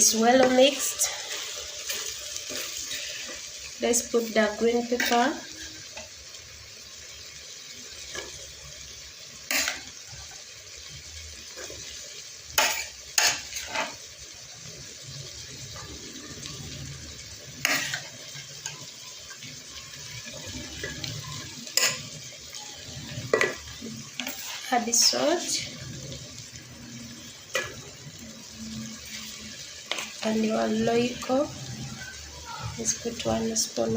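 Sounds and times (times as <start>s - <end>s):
stew sizzling: 0.0s - 33.9s.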